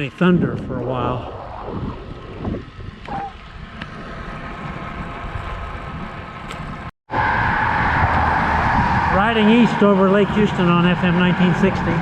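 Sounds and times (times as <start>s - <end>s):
wind noise: 0.0s - 12.0s
traffic and tyre noise: 1.3s - 12.0s.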